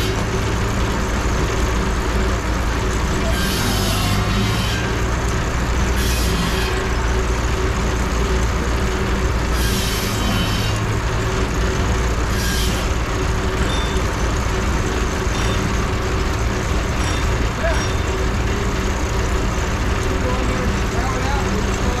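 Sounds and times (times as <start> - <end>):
steam engine low drone: 0.0 - 22.0.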